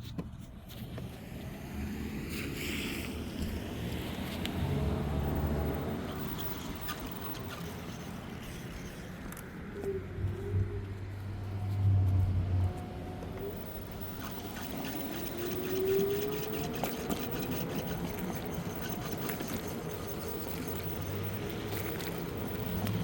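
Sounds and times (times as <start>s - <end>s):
electric scooter mechanical rumble: 0.0s - 23.0s.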